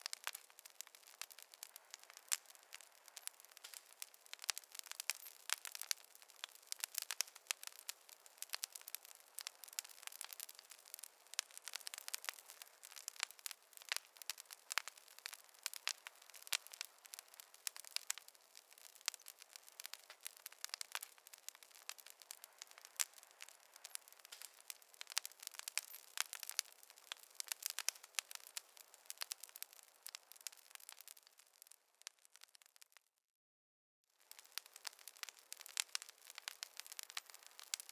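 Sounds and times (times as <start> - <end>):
wood fire crackling: 0.0 - 33.1, 34.2 - 37.9.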